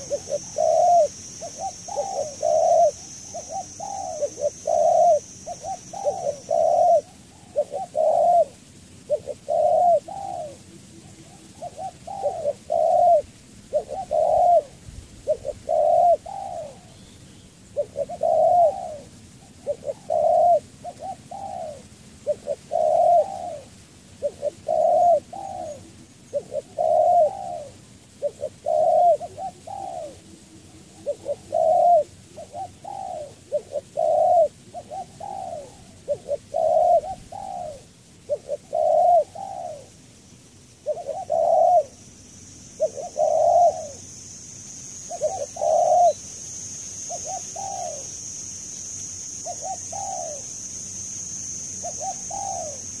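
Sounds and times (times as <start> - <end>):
dove cooing: 0.0 - 42.1, 42.7 - 44.1, 45.0 - 48.3, 49.4 - 50.6, 51.8 - 53.0
high-pitched hiss: 0.0 - 53.0.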